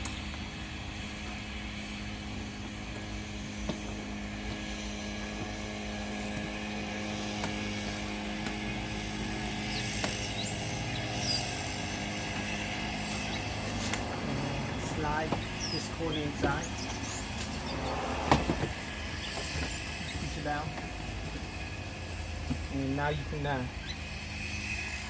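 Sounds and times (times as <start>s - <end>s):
low mechanical drone: 0.0s - 25.0s.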